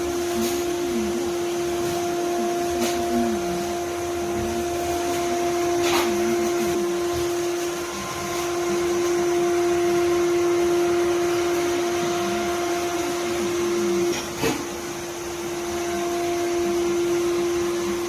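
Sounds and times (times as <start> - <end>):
robot vacuum cleaner running: 0.0 - 18.0.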